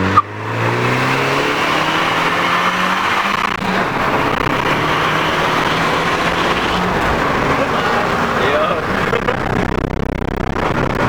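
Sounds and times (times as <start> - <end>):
car engine accelerating: 0.0 - 11.0
wind and road noise: 0.0 - 11.0.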